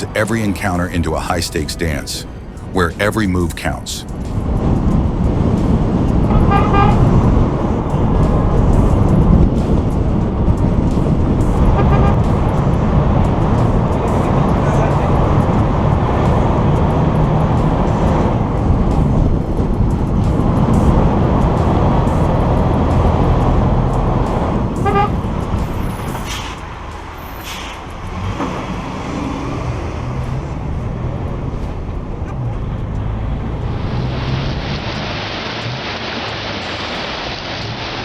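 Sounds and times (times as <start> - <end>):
heavy truck engine: 0.0 - 38.0
road noise: 0.0 - 38.0.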